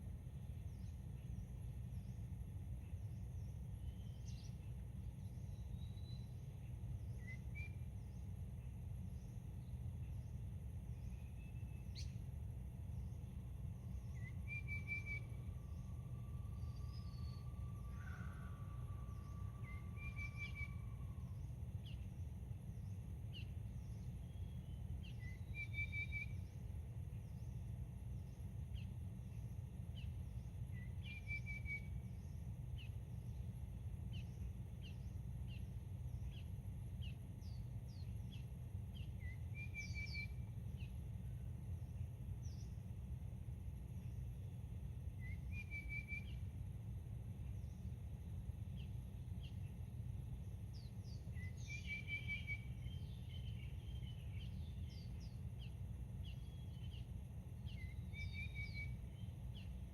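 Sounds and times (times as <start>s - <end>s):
constant low rumble: 0.0s - 59.9s
faint steady tone: 0.0s - 59.9s.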